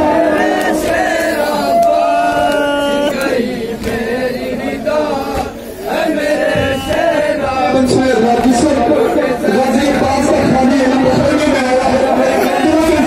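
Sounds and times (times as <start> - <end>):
lead voice chanting: 0.0 - 13.0
men chanting in unison: 0.0 - 13.0.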